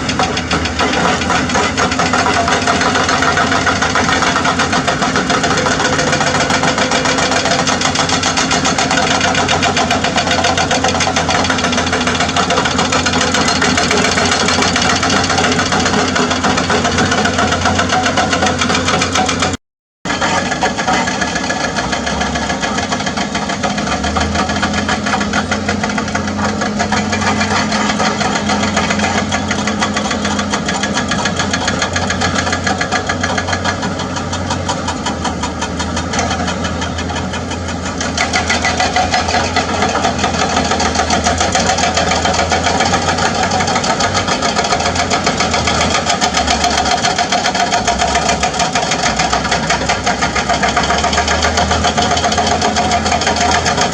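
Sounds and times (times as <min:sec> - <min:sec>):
diesel engine running: 0:00.0 - 0:53.9
hydraulic breaker hammering rock: 0:00.0 - 0:53.9.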